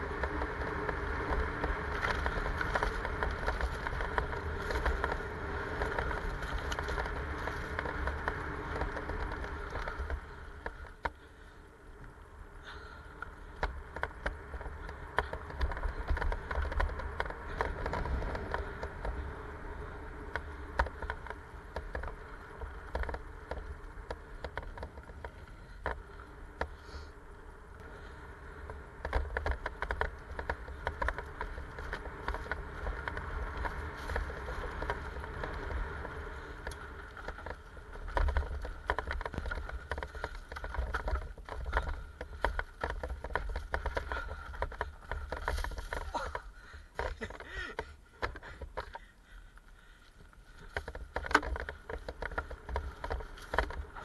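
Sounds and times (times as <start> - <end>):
bike clicking and rattling: 0.0 - 54.0
tyres rolling on dirt: 0.0 - 54.0
wind rumbling on microphone: 0.0 - 54.0.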